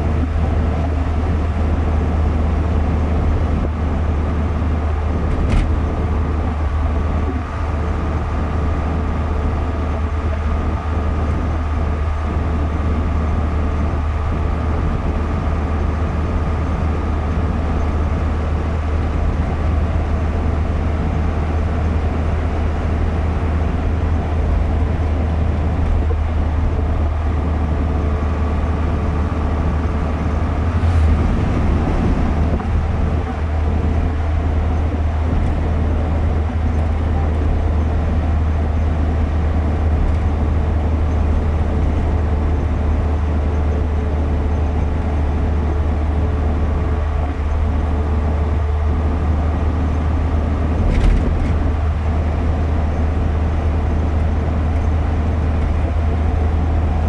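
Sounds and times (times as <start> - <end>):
engine and tyre rumble: 0.0 - 57.0
faint constant hum: 0.0 - 57.0.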